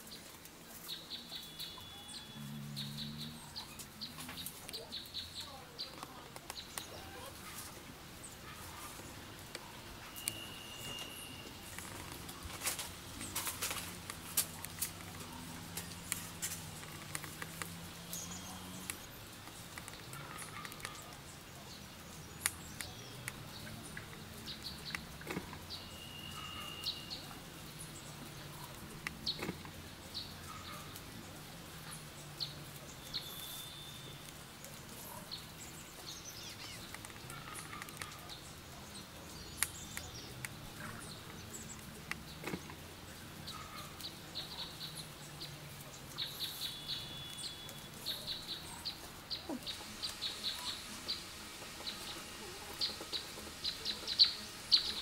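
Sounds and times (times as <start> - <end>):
birds chirping: 0.0 - 55.0
dry palm leaves rustling: 0.0 - 55.0.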